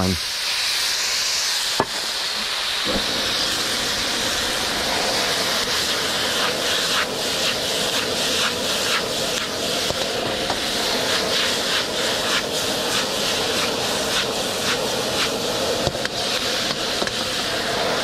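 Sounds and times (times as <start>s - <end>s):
gas burner roaring: 0.0s - 18.0s
noodles sizzling in a wok: 0.0s - 18.0s.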